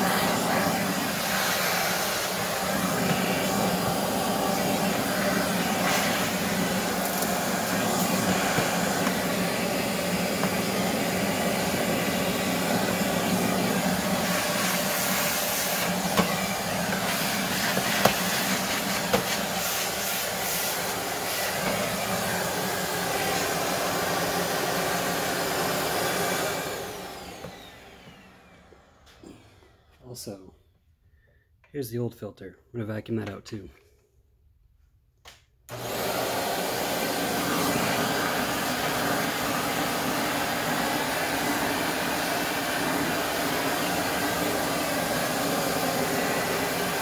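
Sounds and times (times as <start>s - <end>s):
vacuum motor spinning down: 0.0s - 29.9s, 35.7s - 47.0s
handheld vacuum running: 0.0s - 30.0s, 35.7s - 47.0s.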